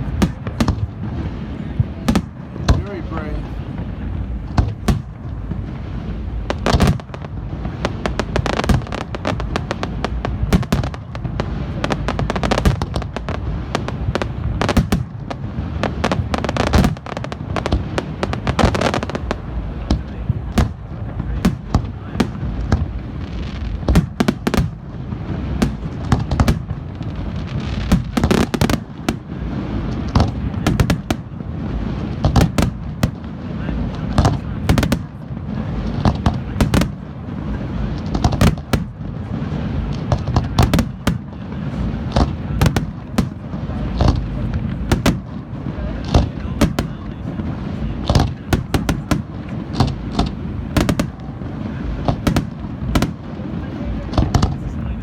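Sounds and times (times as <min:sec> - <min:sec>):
fireworks bangs and booms: 0:00.0 - 0:55.0.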